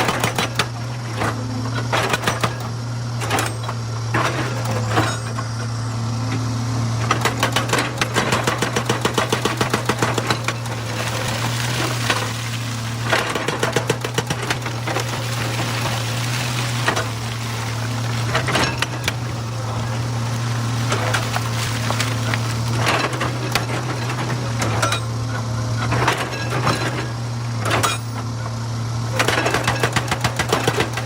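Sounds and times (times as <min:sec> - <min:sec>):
hydraulic breaker hammering stone: 0:00.0 - 0:05.6, 0:07.0 - 0:31.0
diesel engine running: 0:00.0 - 0:31.0.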